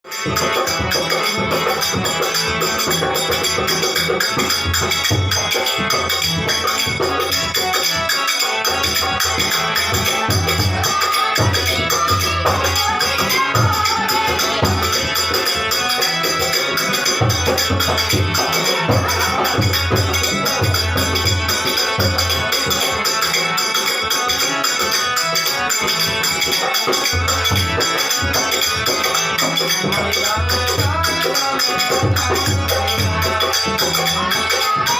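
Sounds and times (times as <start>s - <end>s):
jingling percussion rhythm: 0.0s - 34.9s.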